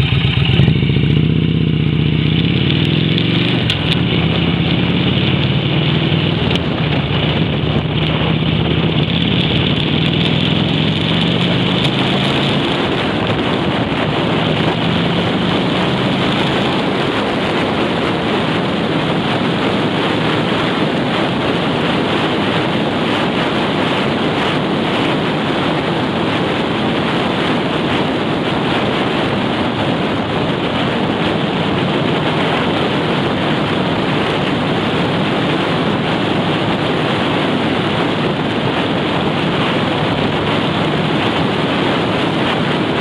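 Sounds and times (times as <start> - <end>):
wind rush on microphone: 0.0 - 43.0.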